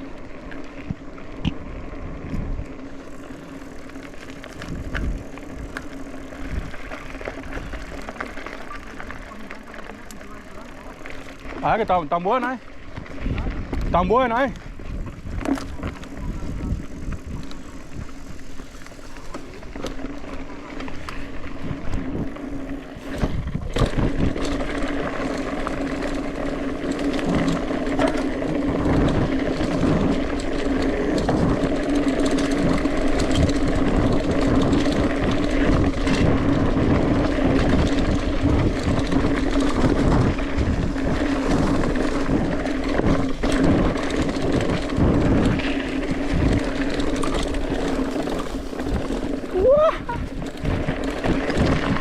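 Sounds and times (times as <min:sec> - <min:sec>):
tyres rumbling over trail: 0:00.0 - 0:52.0
wind buffeting microphone: 0:00.0 - 0:52.0.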